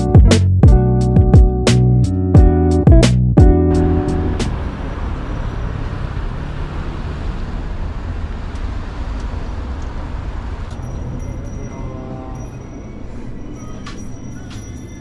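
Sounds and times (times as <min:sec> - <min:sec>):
vehicle road noise rumble: 0:02.9 - 0:15.0.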